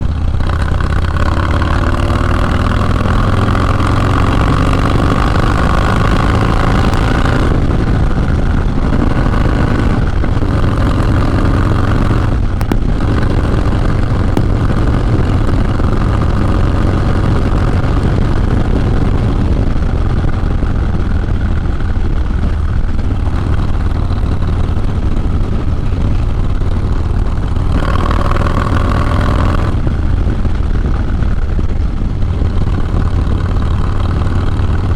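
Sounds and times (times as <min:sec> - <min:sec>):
motorcycle exhaust note: 0:00.0 - 0:34.9.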